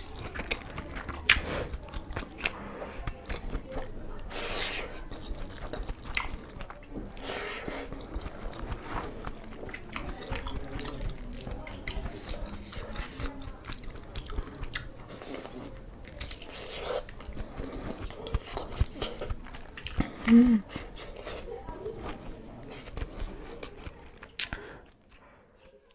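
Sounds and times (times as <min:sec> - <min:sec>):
chewing and mouth smacks: 0:00.0 - 0:25.9.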